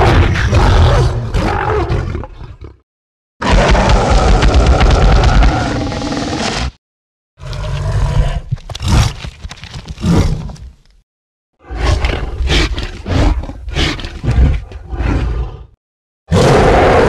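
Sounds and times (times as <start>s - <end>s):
giant ape growls and roars: 0.0s - 2.8s, 3.4s - 6.8s, 7.4s - 10.7s, 11.6s - 17.0s.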